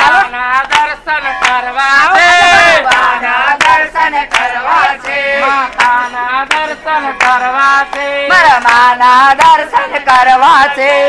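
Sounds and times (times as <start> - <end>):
group devotional singing: 0.0 - 11.0
hand claps: 0.0 - 11.0
lead singer voice: 0.0 - 11.0.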